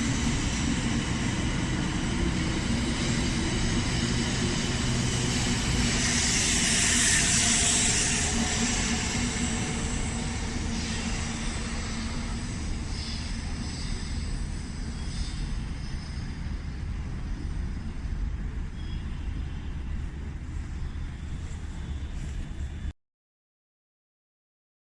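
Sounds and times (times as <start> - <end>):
high hiss: 0.0 - 22.8
train pulling away: 0.0 - 22.9.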